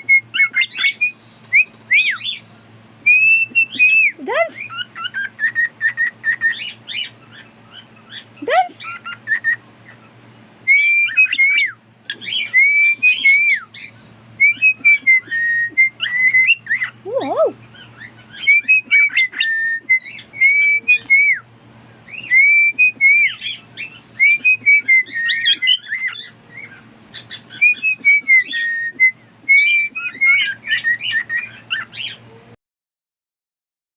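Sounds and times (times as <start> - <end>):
cockatiel whistling a tune: 0.0 - 2.4, 3.0 - 8.2, 8.8 - 10.0, 10.6 - 17.0, 17.7 - 21.4, 22.1 - 32.2
bird chirps: 0.0 - 2.5, 3.1 - 21.4, 22.0 - 32.2.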